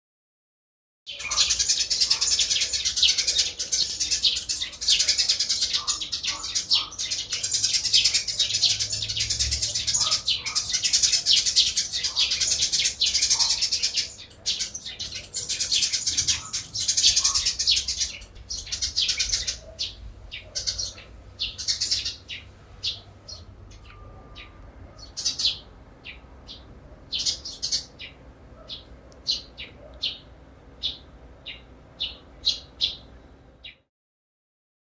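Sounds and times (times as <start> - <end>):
small birds chirping: 1.1 - 33.9.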